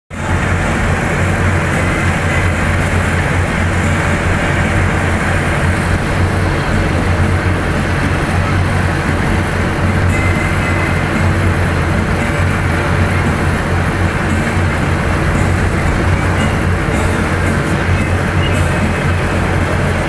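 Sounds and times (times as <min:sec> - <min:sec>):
military vehicles driving past: 0:00.1 - 0:20.0.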